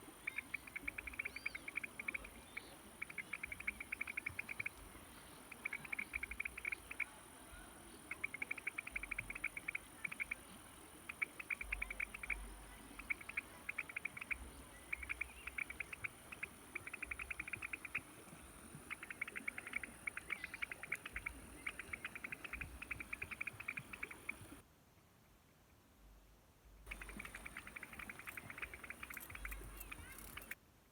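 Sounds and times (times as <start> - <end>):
rapid clicking trills: 0.3 - 4.9, 5.5 - 7.1, 8.1 - 24.6, 26.9 - 30.6.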